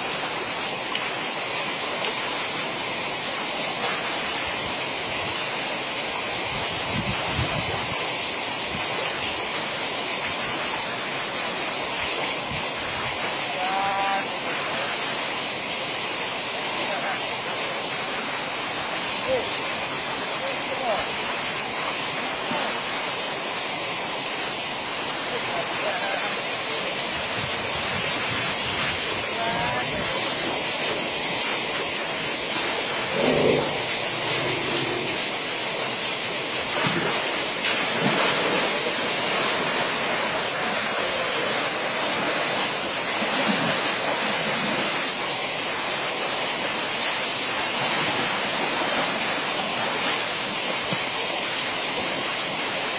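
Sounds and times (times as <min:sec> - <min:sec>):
stream rushing: 0:00.0 - 0:52.9.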